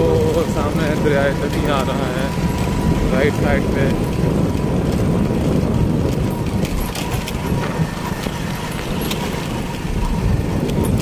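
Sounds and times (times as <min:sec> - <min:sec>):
vehicle low rumble: 0:00.0 - 0:11.0
knocks and rattles: 0:00.2 - 0:11.0.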